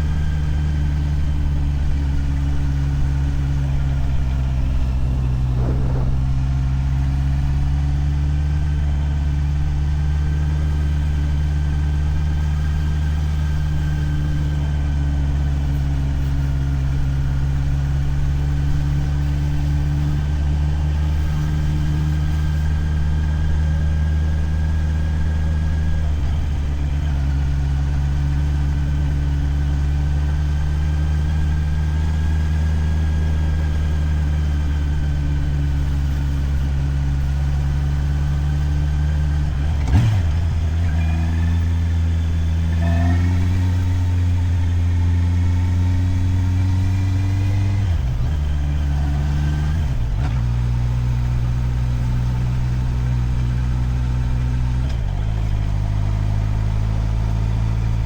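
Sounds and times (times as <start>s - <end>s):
motorcycle engine idling: 0.0s - 46.9s, 47.8s - 58.0s.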